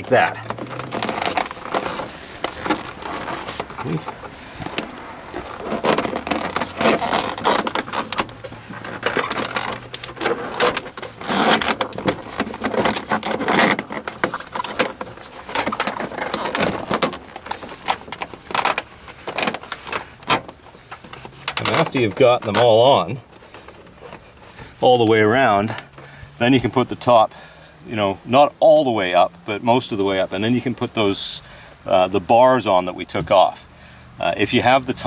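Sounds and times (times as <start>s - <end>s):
vinyl soft top rustling and crinkling: 0.0s - 35.0s.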